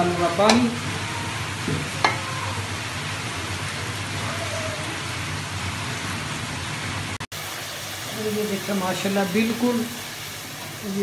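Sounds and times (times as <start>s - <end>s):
meat sizzling: 0.0s - 11.0s
water pouring and splashing: 0.0s - 11.0s.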